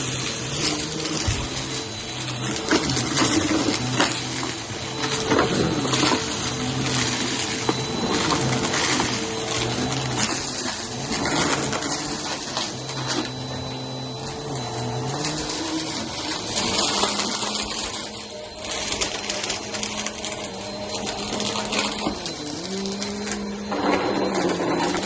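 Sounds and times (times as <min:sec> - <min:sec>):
cereal crackling in vacuum: 0:00.0 - 0:25.0
vacuum cleaner motor: 0:00.0 - 0:25.0.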